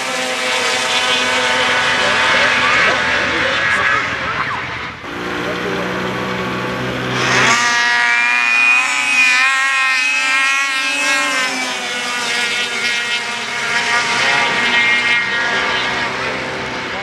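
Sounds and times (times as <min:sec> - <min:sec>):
snowmobile engines at high revs: 0:00.0 - 0:17.0.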